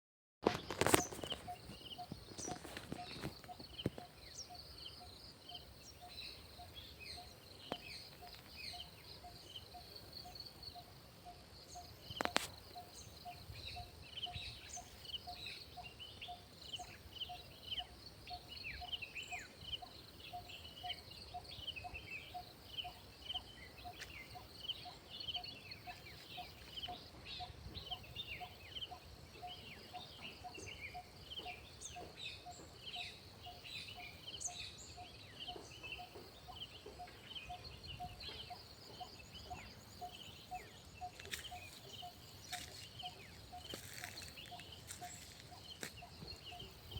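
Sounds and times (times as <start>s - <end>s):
small birds chirping: 0.5s - 46.9s.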